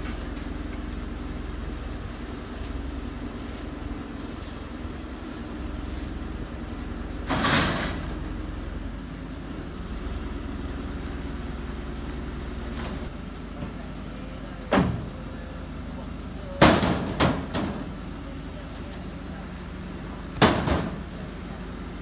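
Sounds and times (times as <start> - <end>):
crane engine running: 0.0 - 22.0.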